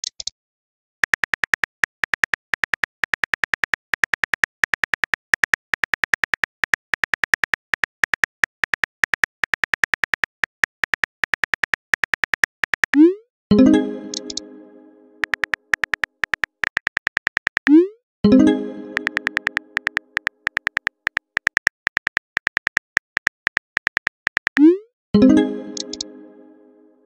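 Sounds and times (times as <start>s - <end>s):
keyboard typing clicks: 1.0s - 14.5s, 15.2s - 26.3s.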